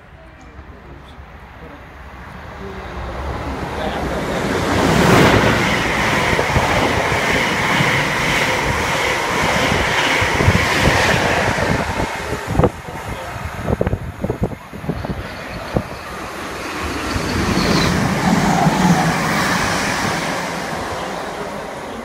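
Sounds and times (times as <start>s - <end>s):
train rushing past: 0.0s - 22.0s.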